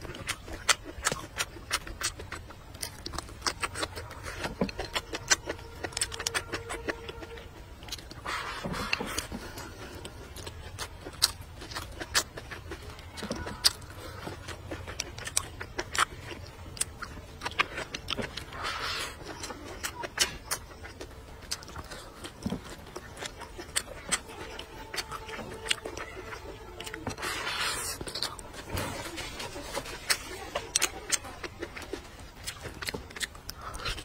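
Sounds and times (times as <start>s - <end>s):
wet chewing and lip-smacking: 0.0s - 34.0s.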